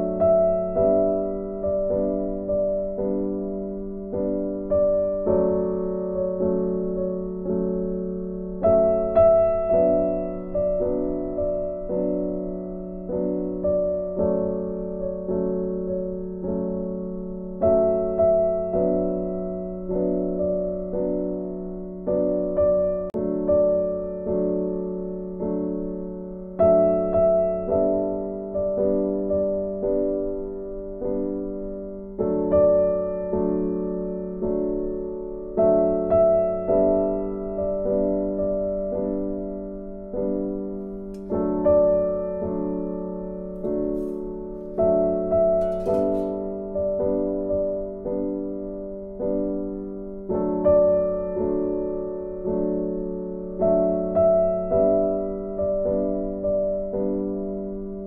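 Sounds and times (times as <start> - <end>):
slow gentle piano chords: 0.0 - 58.0.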